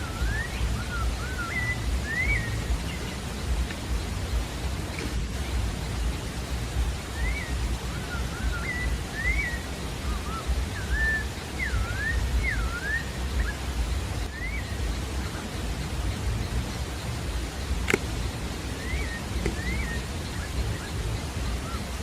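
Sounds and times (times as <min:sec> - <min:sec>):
low rumbling noise: 0:00.0 - 0:22.0
thrush singing whistled phrases: 0:00.0 - 0:22.0.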